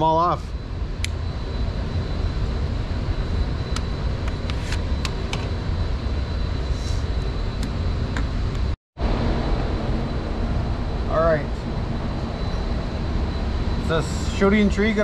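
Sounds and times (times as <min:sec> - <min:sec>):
low rumble: 0:00.1 - 0:15.0.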